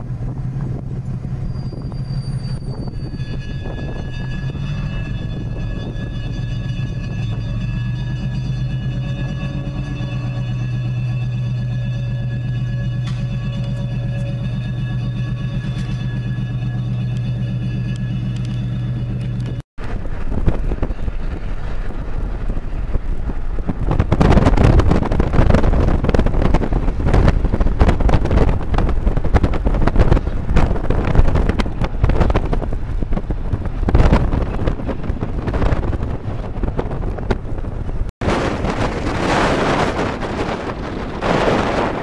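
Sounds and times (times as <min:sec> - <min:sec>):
diesel locomotive engine running: 0:00.0 - 0:42.0
vehicle noise: 0:00.0 - 0:42.0
wind buffeting microphone: 0:00.0 - 0:42.0.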